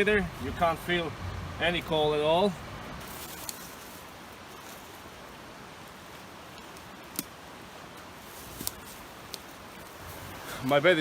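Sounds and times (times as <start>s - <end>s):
creek rushing: 0.0s - 11.0s.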